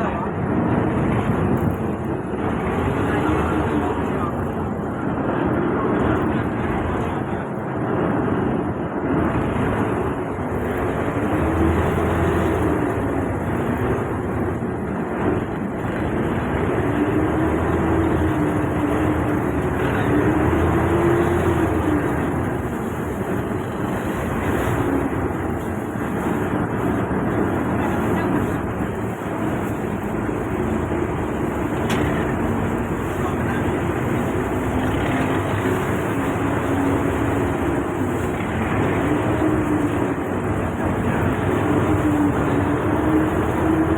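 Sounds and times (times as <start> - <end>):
boat engine running: 0.0 - 43.9.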